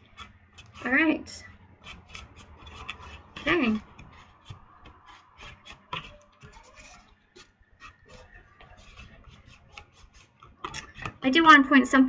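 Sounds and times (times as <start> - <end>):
cardstock scratching and rubbing: 0.0 - 11.2.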